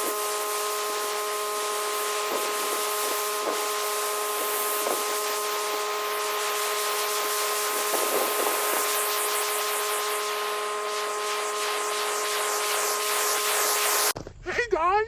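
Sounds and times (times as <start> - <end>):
pressure washer motor whine: 0.0 - 14.2
water jet hissing: 0.0 - 14.2.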